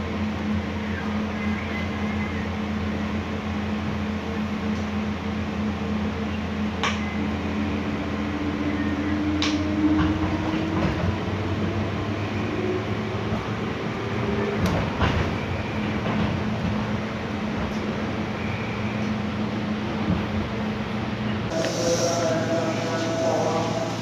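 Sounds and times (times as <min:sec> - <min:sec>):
train car hum: 0:00.0 - 0:24.0.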